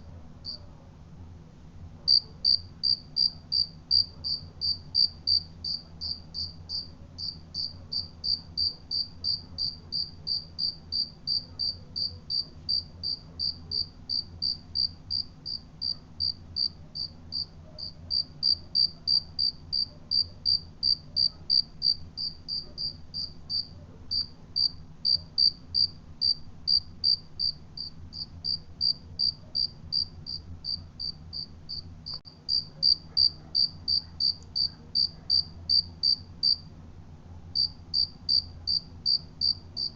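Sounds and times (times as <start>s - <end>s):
faint low hum: 0.0s - 39.9s
cricket chirping: 2.1s - 36.6s, 37.6s - 39.9s.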